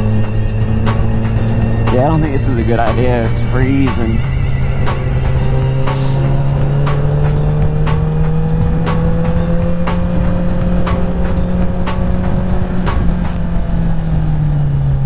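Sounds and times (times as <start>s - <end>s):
background music with a beat: 0.0s - 13.4s
motorcycle engine running: 0.0s - 14.9s.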